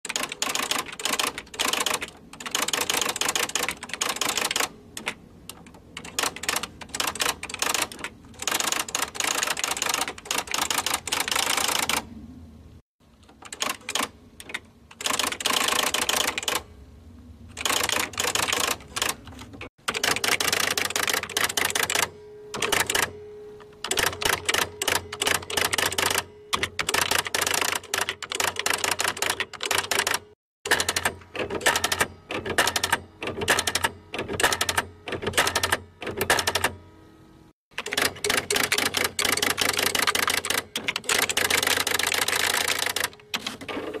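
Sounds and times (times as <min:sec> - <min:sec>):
typewriter key strikes: 0:00.1 - 0:12.0, 0:13.4 - 0:16.6, 0:17.6 - 0:23.1, 0:23.8 - 0:36.8, 0:37.8 - 0:43.7
typewriter motor humming: 0:00.1 - 0:12.1, 0:13.4 - 0:16.7, 0:17.5 - 0:23.1, 0:23.8 - 0:36.8, 0:37.8 - 0:44.0.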